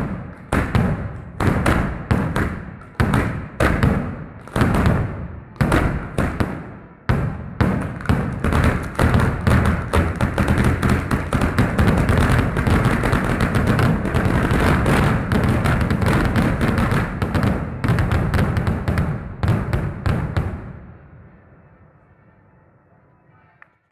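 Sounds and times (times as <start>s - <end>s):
firecrackers exploding: 0.0s - 20.9s.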